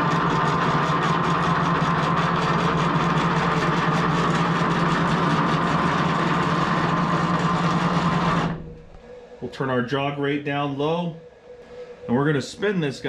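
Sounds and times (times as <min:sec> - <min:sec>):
stepper motors humming and whining: 0:00.0 - 0:13.0.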